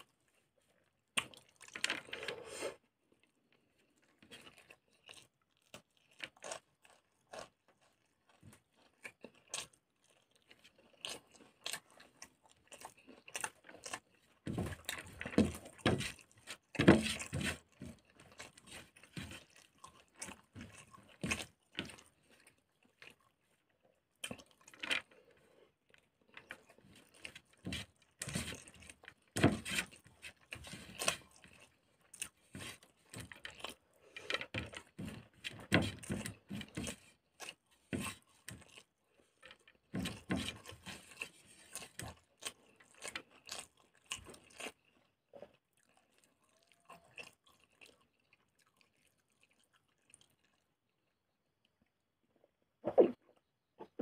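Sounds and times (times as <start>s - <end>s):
chewing: 0.0s - 52.0s.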